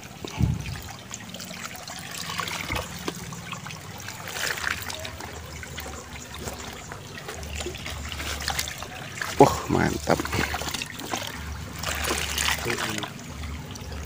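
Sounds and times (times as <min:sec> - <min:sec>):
water patters: 0:00.0 - 0:14.0
water running off net: 0:00.0 - 0:14.0
water splashing and trickling: 0:00.0 - 0:14.0.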